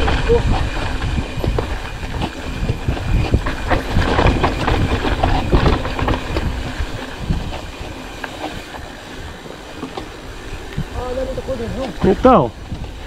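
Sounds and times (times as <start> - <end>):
mountain bike rattling: 0.0 - 13.0.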